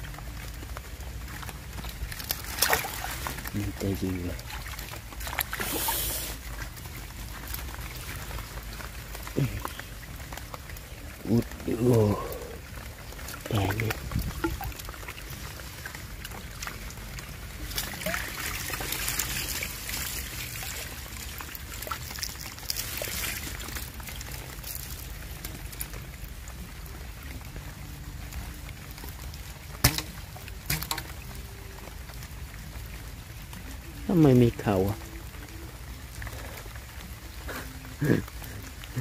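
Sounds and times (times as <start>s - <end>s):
water trickling and pouring: 0.0s - 39.0s.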